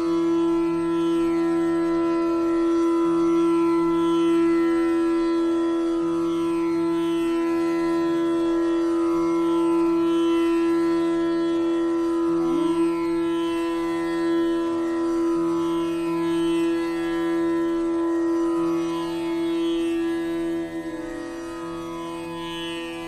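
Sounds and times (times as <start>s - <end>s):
steady drone on one note: 0.0s - 23.0s.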